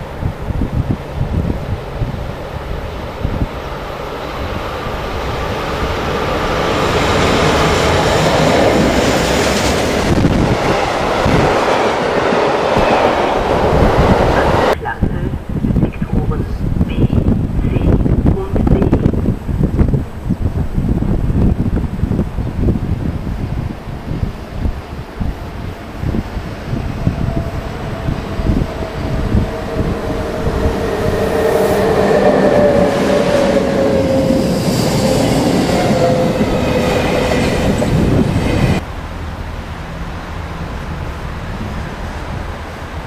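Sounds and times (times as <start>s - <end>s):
electric locomotive whine: 0.0s - 14.8s, 18.7s - 43.0s
wind buffeting microphone: 0.0s - 39.1s, 40.6s - 43.0s
rumble of wheels on rail: 0.0s - 43.0s.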